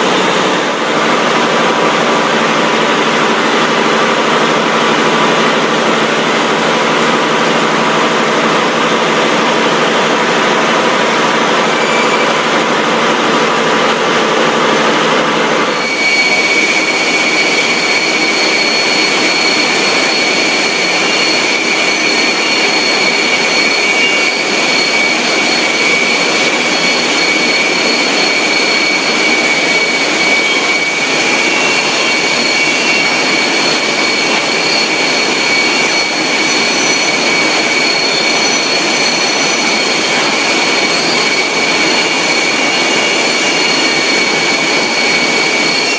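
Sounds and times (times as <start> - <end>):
constant high whine: 0.0 - 45.9
factory machinery noise: 0.0 - 45.9.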